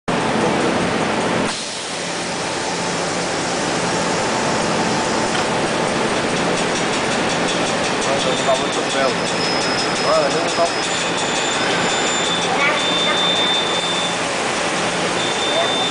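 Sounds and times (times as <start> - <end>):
machine rumble: 0.1 - 15.9
machine hissing: 1.5 - 15.9.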